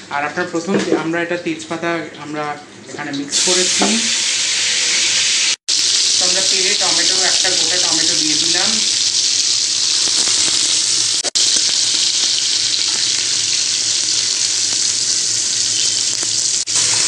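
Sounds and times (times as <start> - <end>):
vegetables sizzling in hot oil: 3.0 - 17.0.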